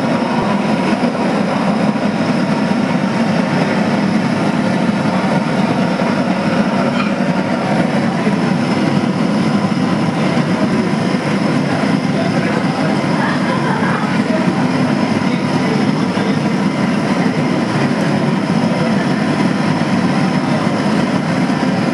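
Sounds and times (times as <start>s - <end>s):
kitchen equipment rushing hum: 0.0s - 21.9s.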